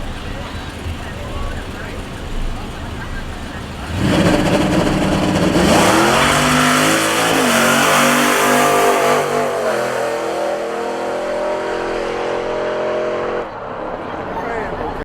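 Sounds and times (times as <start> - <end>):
race car accelerating: 0.0 - 15.0.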